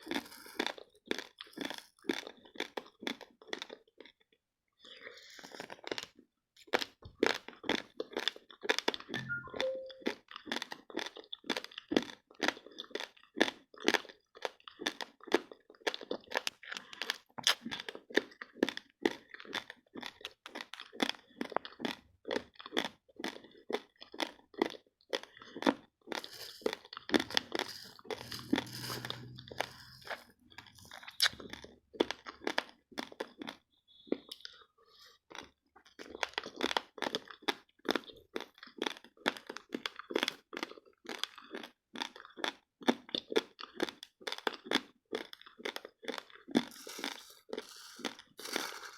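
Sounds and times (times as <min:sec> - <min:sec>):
chewing crisp crunches: 0:00.0 - 0:09.1, 0:10.6 - 0:48.6.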